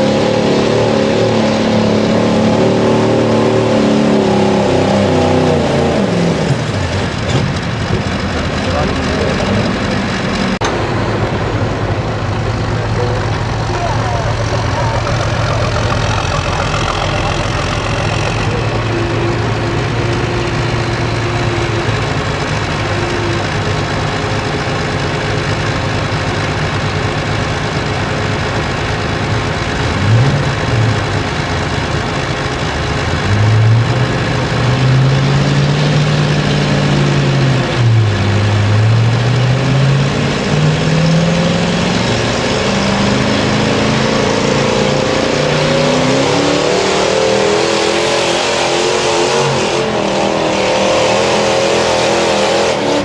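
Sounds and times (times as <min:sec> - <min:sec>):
truck engine revving: 0:00.0 - 0:53.0.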